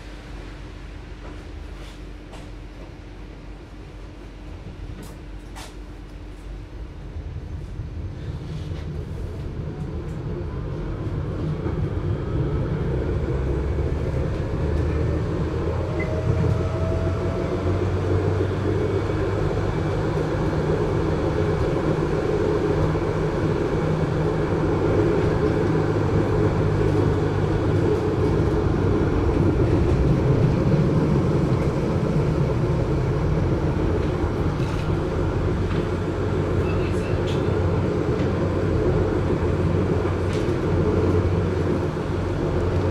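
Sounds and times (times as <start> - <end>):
rising tram whine: 0.0 - 42.9
tram rumble on rails: 0.0 - 42.9.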